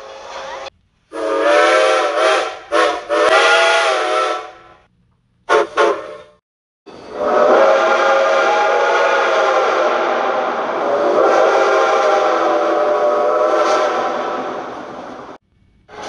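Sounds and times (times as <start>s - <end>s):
steam locomotive chime whistle: 1.2s - 4.8s, 5.5s - 14.8s.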